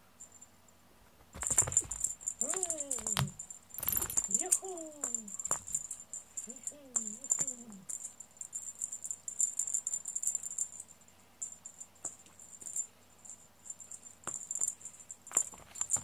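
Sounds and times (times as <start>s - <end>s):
metal collar tag jingling: 1.4s - 16.0s.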